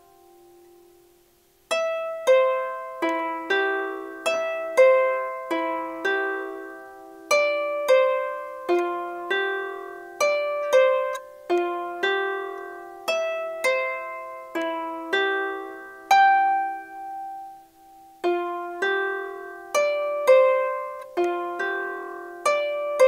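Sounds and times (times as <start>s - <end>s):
harp melody plucked: 0.0s - 23.0s.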